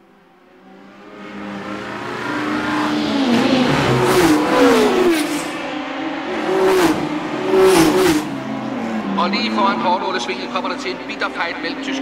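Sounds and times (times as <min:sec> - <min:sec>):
racing cars passing at high revs: 0:00.0 - 0:12.0.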